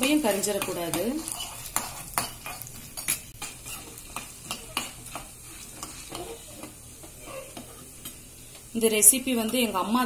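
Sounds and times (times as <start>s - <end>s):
spoon scraping metal pan: 0.0s - 8.2s
faint sizzle: 0.0s - 10.0s.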